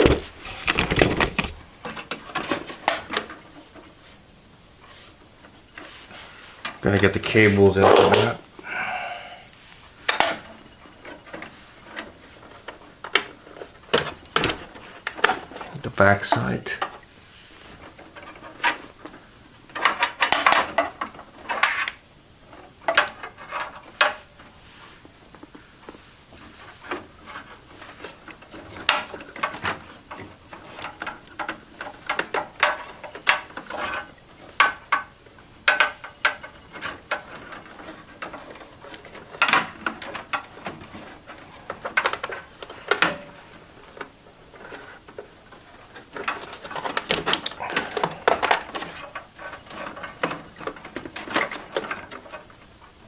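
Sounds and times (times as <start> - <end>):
cables and plastic connectors rattling: 0.0 - 4.0, 5.4 - 9.1, 10.0 - 17.0, 17.6 - 53.0.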